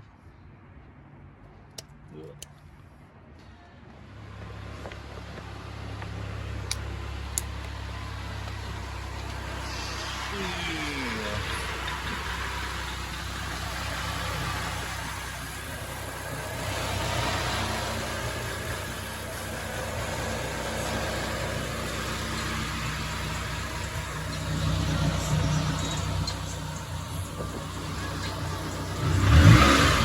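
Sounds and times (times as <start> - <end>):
car engine idling: 4.3 - 30.0.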